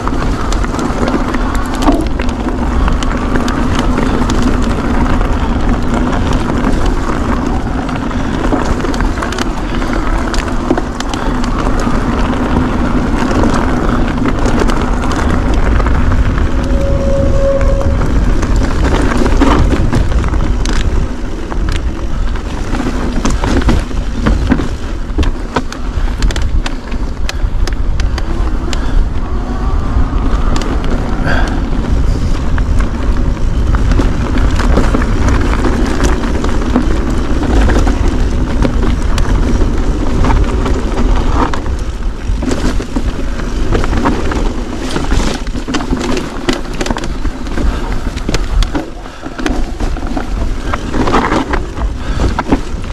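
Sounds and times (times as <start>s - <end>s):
bike knocking and rattling: 0.0s - 52.9s
bike tyres rolling over loose stone: 0.0s - 52.9s
wind on microphone: 0.0s - 52.9s.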